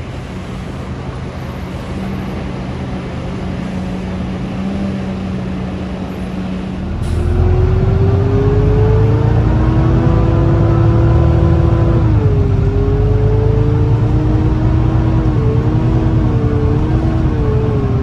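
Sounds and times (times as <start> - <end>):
bus engine pulling away whining: 0.0 - 18.0
diesel buses idling: 0.0 - 18.0.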